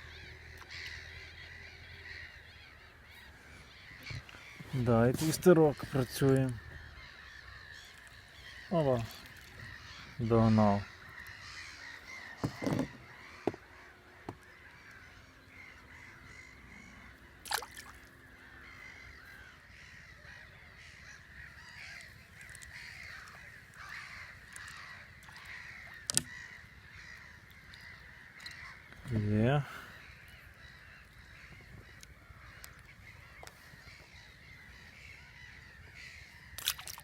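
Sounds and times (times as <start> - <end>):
birds calling: 0.0 - 37.0.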